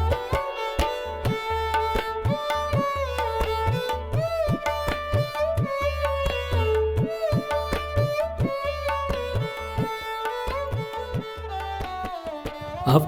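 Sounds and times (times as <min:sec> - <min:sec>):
hand drum rhythm: 0:00.0 - 0:11.8
stringed melody: 0:00.0 - 0:13.0.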